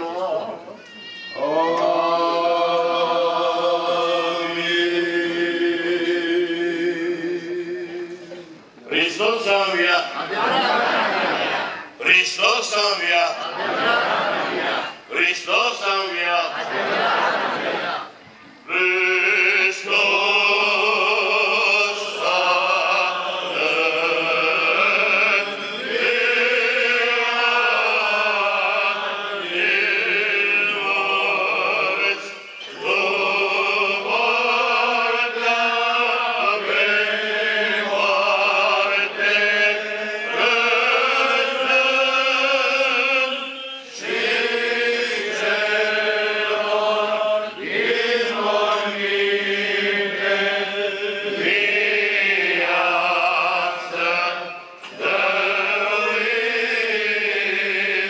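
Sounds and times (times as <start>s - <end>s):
liturgical chant: 0.0s - 58.0s.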